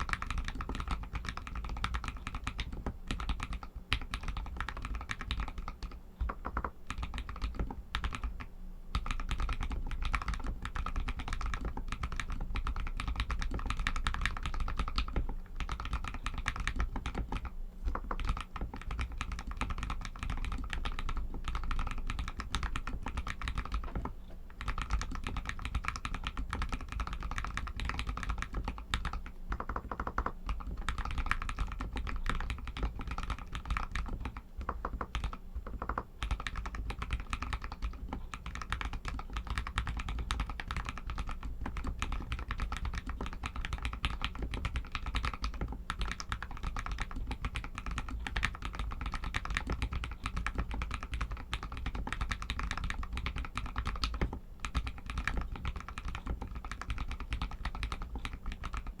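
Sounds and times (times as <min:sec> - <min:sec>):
fast typing on mechanical keyboard: 0:00.0 - 0:59.0.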